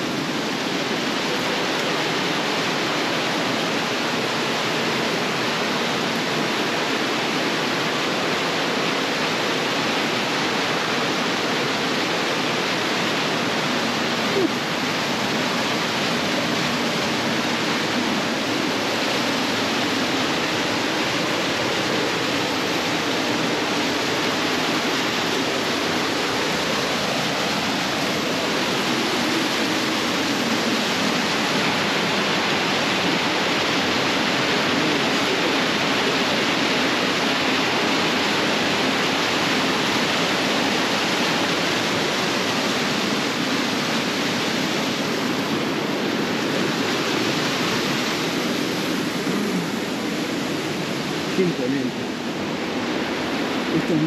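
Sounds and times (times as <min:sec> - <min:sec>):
cascading water rushing: 0:00.0 - 0:54.0.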